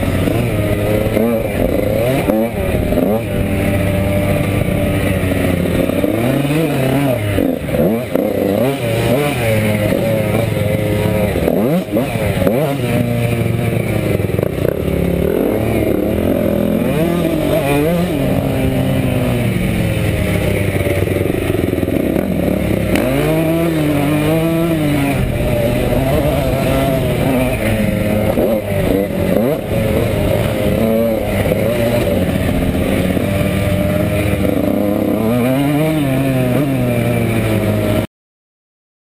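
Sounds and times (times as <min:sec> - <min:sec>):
dirt bike engine revving: 0:00.0 - 0:38.1.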